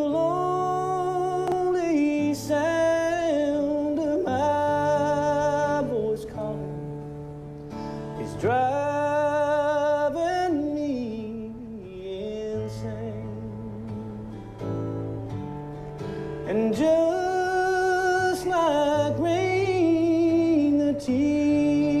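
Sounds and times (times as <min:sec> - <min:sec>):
slow country song with guitar: 0:00.0 - 0:22.0.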